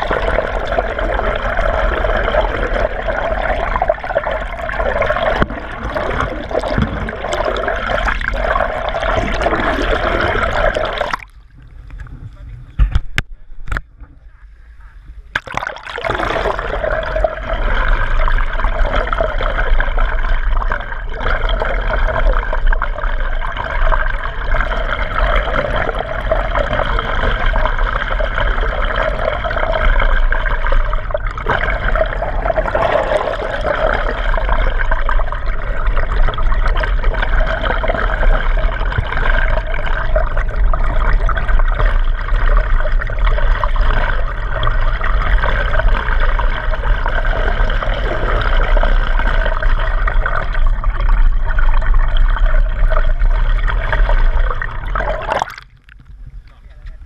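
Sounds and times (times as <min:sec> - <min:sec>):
muffled underwater water rushing: 0:00.0 - 0:57.0.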